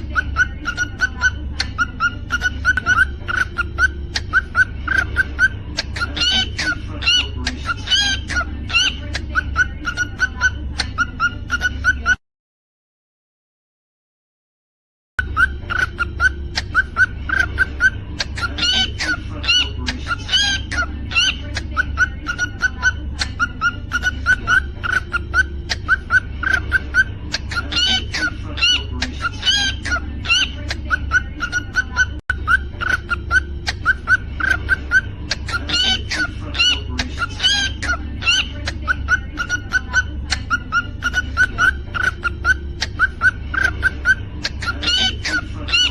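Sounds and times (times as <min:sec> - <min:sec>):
cockatiel chirping and whistling: 0:00.0 - 0:12.2, 0:15.2 - 0:45.9.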